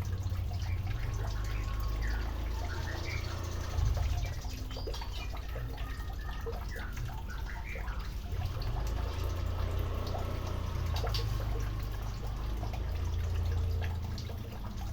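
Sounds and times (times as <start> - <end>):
water splashing and dripping: 0.0 - 14.9.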